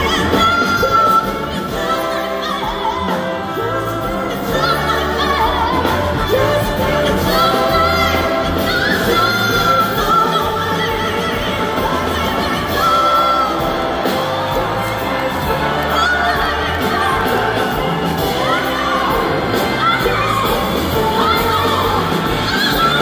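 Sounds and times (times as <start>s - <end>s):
live band bass and drums: 0.0s - 23.0s
woman singing lead vocals: 0.0s - 23.0s.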